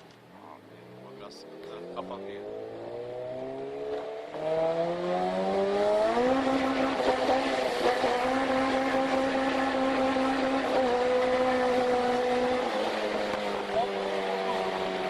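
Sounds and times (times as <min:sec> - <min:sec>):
car engine accelerating hard: 0:00.8 - 0:15.0.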